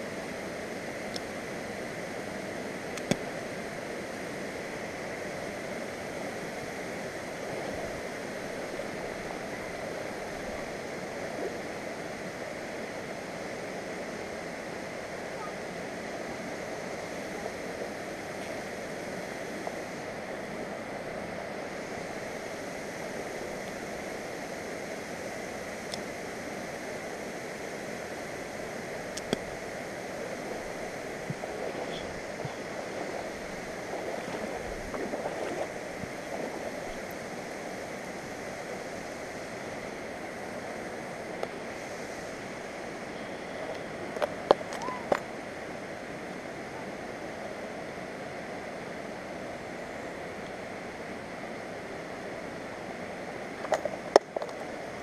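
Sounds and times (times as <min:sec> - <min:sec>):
creek water flowing: 0:00.0 - 0:48.1.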